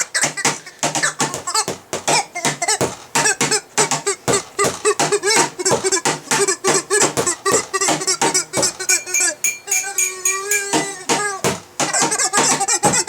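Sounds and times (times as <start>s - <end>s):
squeaky back scratcher rhythm: 0.0s - 13.0s.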